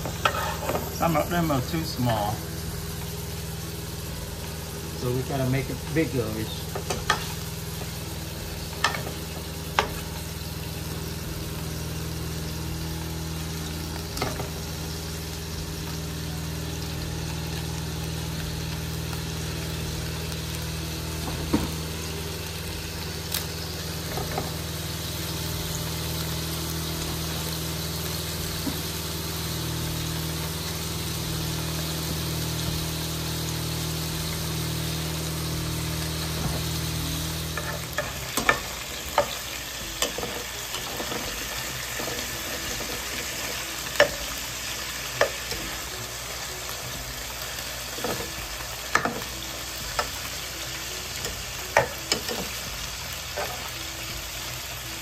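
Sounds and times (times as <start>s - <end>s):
patties sizzling in oil: 0.0s - 55.0s.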